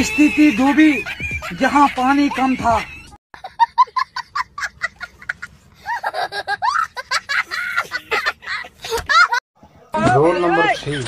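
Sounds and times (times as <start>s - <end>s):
man laughing: 0.0s - 9.4s.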